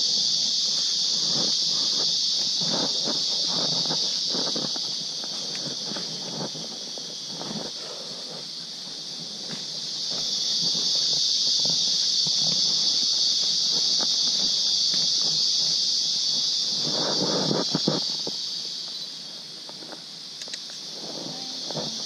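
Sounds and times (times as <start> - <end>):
insects buzzing drone: 0.0 - 22.0
rustling: 0.0 - 22.0
soft footsteps: 0.7 - 19.0.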